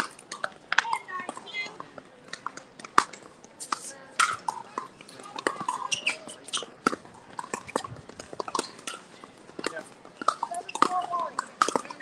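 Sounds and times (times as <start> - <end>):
paddles striking balls: 0.0 - 12.0.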